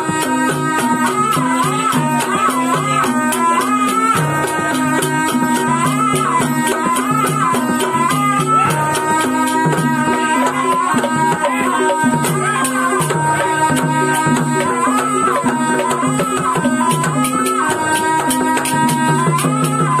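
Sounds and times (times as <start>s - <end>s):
reed pipe melody: 0.0s - 20.0s.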